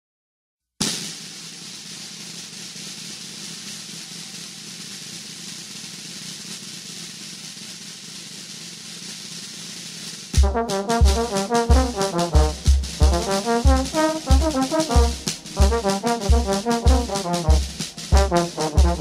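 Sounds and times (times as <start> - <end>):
steady hiss: 0.8 - 19.0.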